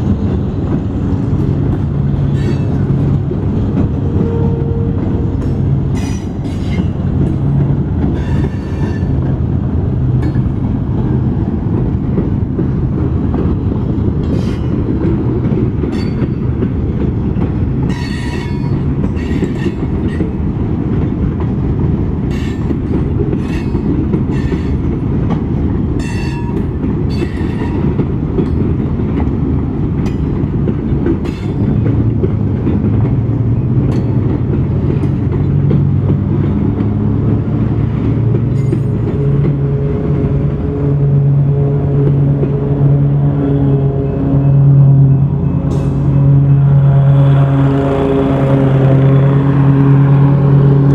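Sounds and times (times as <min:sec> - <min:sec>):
wheels clacking over rail joints: 0:00.0 - 0:40.8
train rumbling past: 0:00.0 - 0:50.9.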